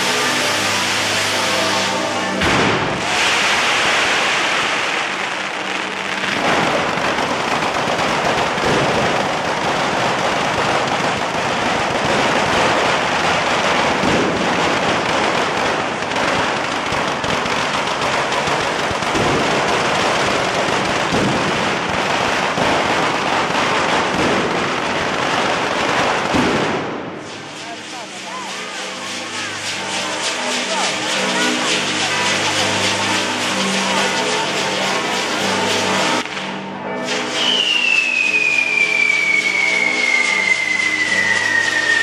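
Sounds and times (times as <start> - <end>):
firecrackers crackling: 0.0 - 42.0
loud firework bangs: 0.0 - 42.0.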